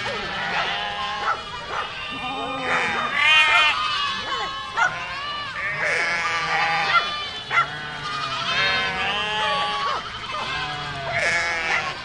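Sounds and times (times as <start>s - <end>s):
goats bleating: 0.0s - 12.0s.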